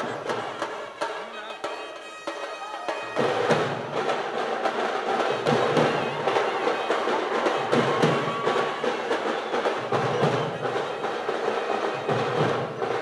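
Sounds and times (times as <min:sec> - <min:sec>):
drummers beating barrel drums: 0:00.0 - 0:13.0.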